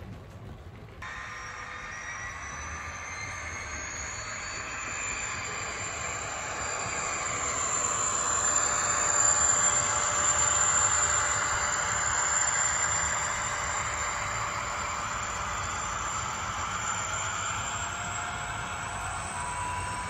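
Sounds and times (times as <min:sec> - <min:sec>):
model train whining past: 0:01.0 - 0:20.0.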